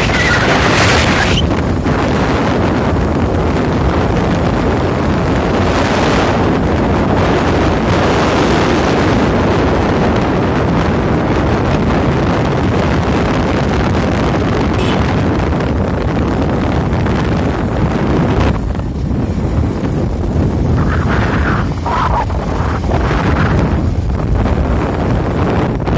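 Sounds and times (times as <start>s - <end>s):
motorcycle engine: 0.0s - 25.9s
road noise: 0.0s - 25.9s
wind buffeting microphone: 0.0s - 25.9s.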